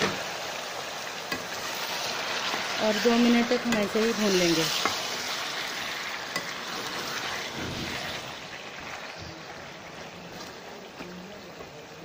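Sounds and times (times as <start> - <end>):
spatula stirring in frying pan: 0.0 - 10.6
chicken sizzling in hot oil: 0.0 - 12.0.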